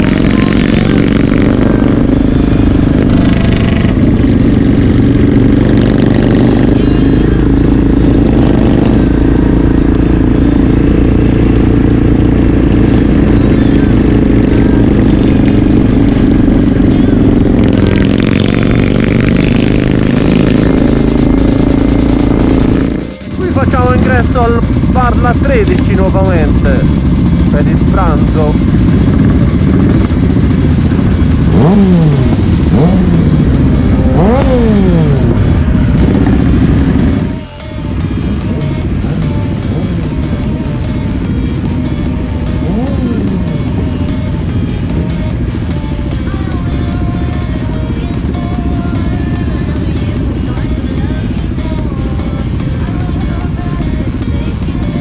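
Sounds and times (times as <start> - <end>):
background music: 0.0 - 55.0
motorcycle engine running: 0.0 - 55.0
road noise: 0.0 - 55.0.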